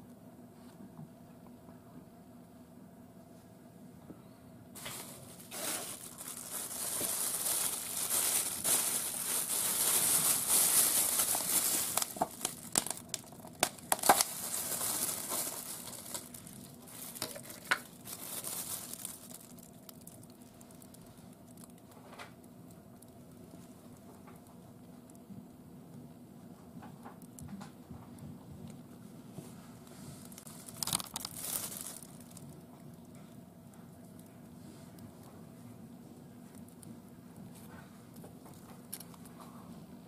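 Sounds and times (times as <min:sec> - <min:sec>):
crinkling and rustling: 0:04.8 - 0:25.2, 0:26.5 - 0:35.6, 0:36.4 - 0:39.8.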